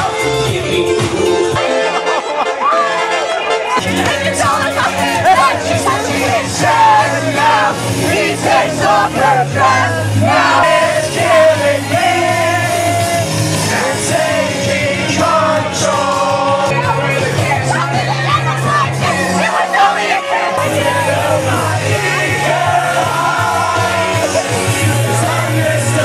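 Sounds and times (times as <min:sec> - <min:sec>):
song with lead vocal: 0:00.0 - 0:26.0
held bass notes: 0:03.2 - 0:26.0.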